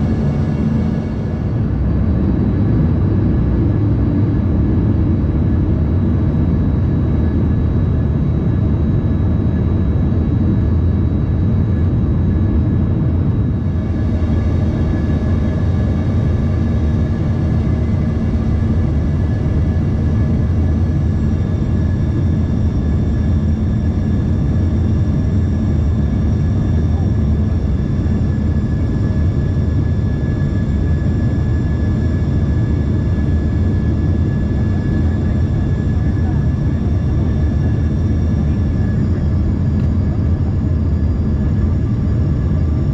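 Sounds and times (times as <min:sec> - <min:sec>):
jet engine cabin rumble: 0:00.0 - 0:42.9
thin steady whines: 0:00.0 - 0:42.9.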